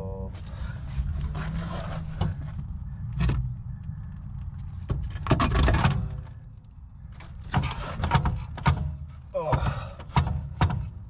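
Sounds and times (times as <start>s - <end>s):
steady low hum: 0.0s - 10.0s
brake knocks and clicks: 0.9s - 11.0s.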